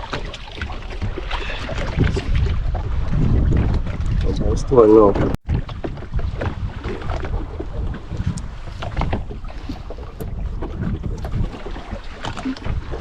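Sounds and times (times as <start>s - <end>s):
water splashes: 0.0s - 13.0s
wind buffeting microphone: 0.0s - 13.0s.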